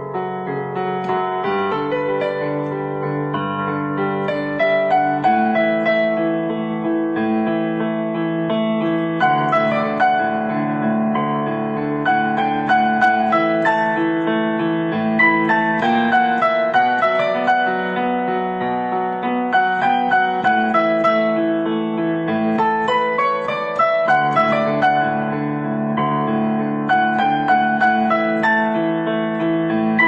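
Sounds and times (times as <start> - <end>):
solo piano melody: 0.0 - 30.0.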